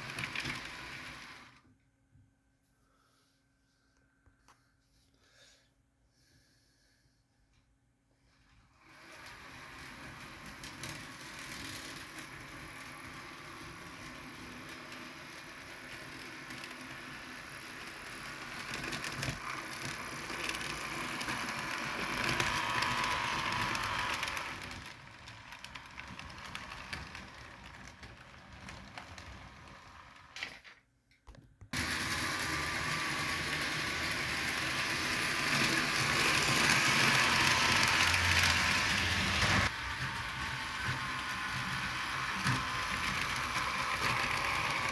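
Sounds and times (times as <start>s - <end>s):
model train mechanical whir: 0.0s - 1.6s, 8.3s - 30.8s, 31.8s - 44.9s
rapid clicking of wheels and gears: 0.0s - 1.6s, 8.8s - 30.6s, 31.8s - 44.9s.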